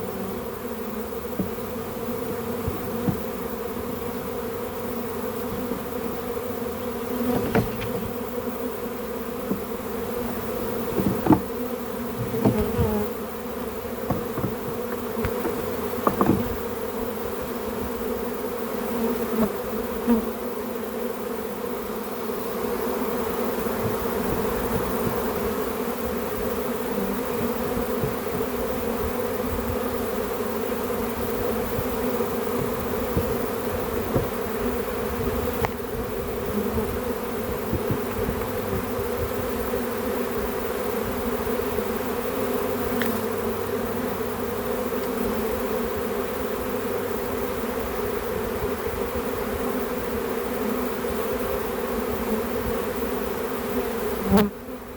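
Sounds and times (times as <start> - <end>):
bees buzzing: 0.0 - 54.9.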